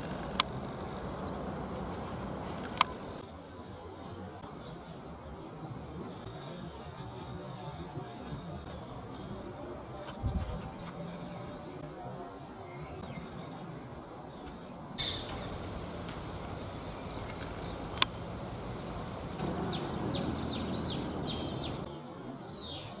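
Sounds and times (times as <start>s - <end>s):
sunbird calling: 0.0s - 22.9s
background noise: 0.0s - 23.0s.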